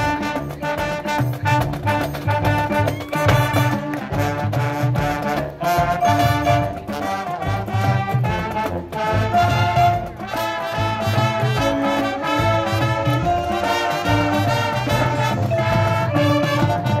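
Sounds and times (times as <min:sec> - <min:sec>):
brass section playing melody: 0:00.0 - 0:17.0
steady drum beat: 0:00.0 - 0:17.0.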